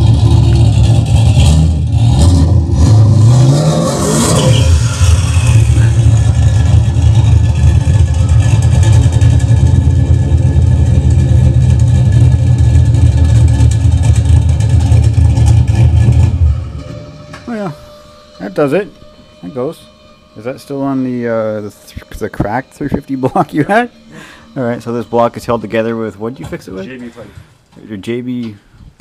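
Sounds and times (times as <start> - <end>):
car engine revving: 0.0 - 25.7.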